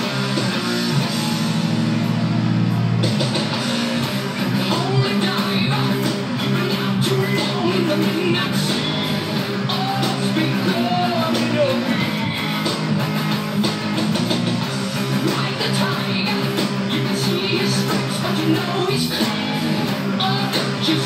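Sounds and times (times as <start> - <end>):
electric guitar: 0.0 - 21.0
rock song with singing: 0.0 - 21.0.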